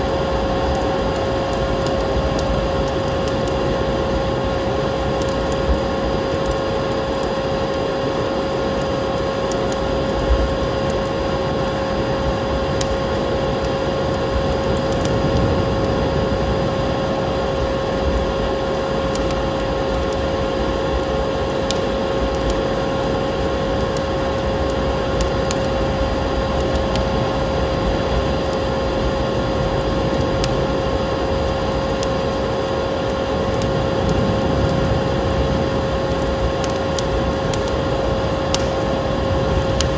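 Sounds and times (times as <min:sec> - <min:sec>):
constant hum-like tone: 0:00.0 - 0:39.9
wood fire crackling: 0:00.0 - 0:39.9.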